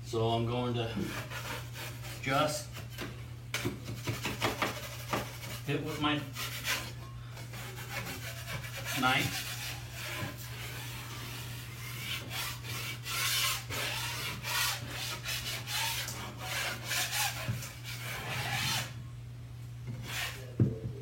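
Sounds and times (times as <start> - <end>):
drywall knife scraping: 0.8 - 19.0, 19.9 - 20.6.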